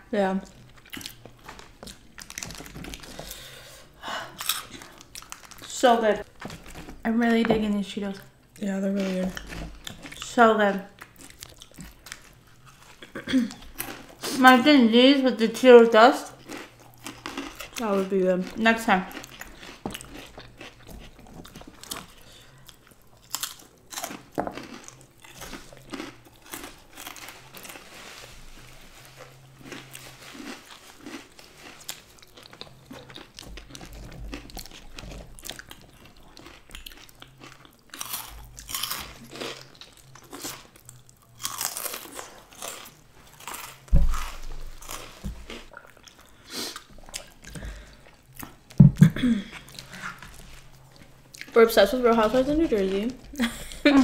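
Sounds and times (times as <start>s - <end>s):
crunching and chewing snacks: 0.4s - 7.1s, 8.0s - 14.6s, 15.6s - 54.0s.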